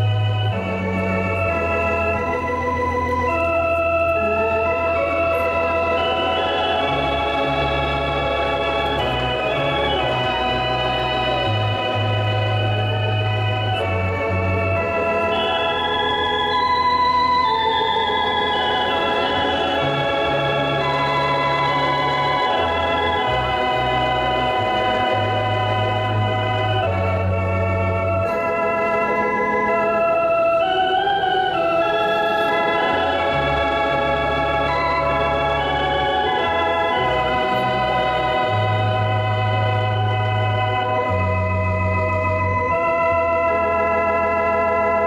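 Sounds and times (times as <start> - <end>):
organ playing chords: 0.0 - 45.0.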